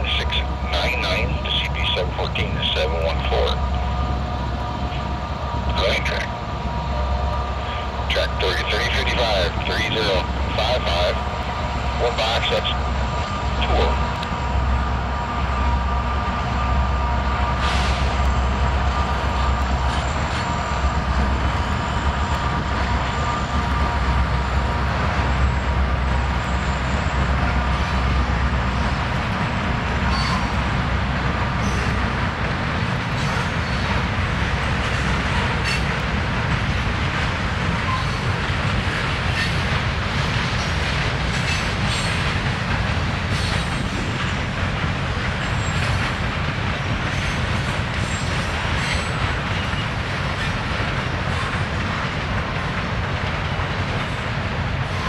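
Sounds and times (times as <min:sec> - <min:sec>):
train rumble on rails: 0:00.0 - 0:55.0.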